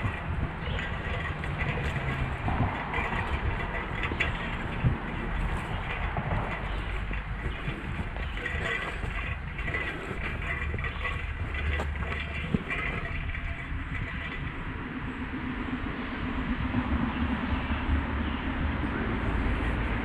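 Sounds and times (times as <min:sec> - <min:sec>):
highway traffic rumble: 0:00.0 - 0:20.0.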